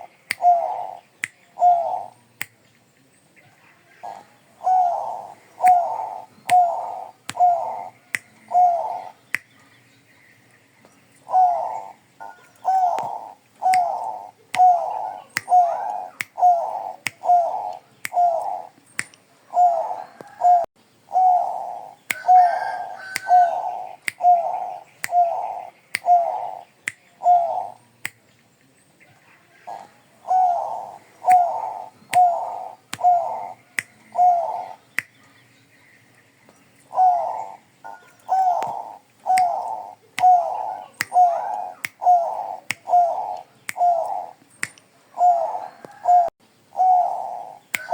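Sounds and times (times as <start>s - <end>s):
dove cooing: 0.0s - 1.0s, 1.6s - 2.2s, 3.9s - 9.2s, 11.2s - 18.8s, 19.5s - 27.8s, 29.6s - 34.8s, 36.9s - 44.4s, 45.0s - 47.9s.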